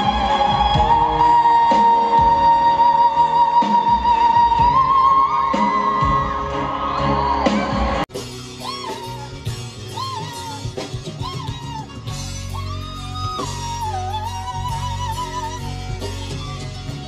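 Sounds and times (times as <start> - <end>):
band accompaniment: 0.0 - 17.0.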